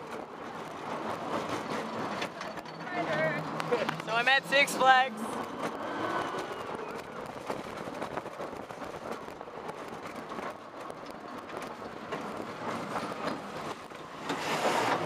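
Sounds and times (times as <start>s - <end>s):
roller coaster rattling on track: 0.0s - 15.0s.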